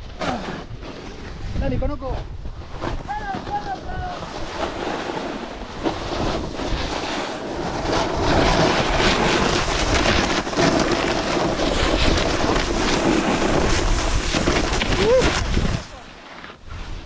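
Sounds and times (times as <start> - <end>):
snowboard scraping over snow: 0.0 - 17.0
wind rushing over microphone: 0.0 - 17.0.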